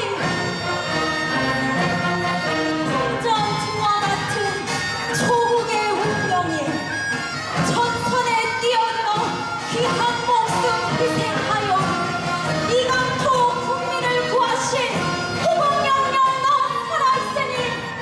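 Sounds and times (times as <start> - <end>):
wind band playing: 0.0 - 18.0.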